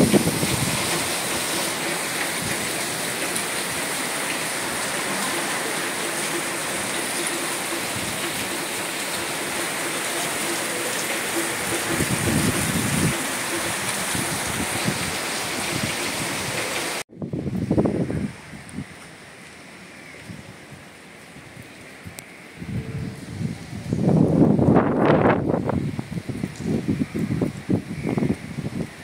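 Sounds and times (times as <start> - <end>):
wind gusting: 0.0 - 19.0, 22.5 - 29.0
heavy rain pouring: 0.0 - 29.0.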